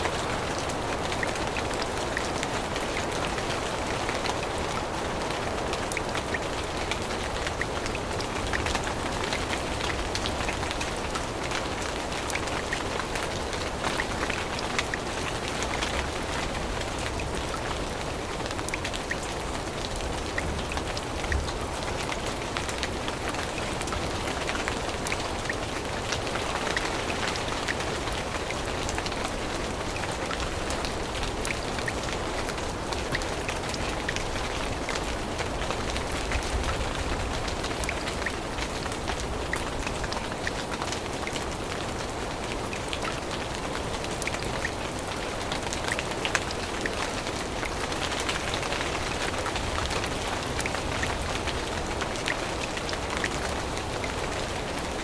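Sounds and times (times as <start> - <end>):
rain falling in a forest: 0.0 - 55.0
raindrops ticking on leaves: 0.0 - 55.0.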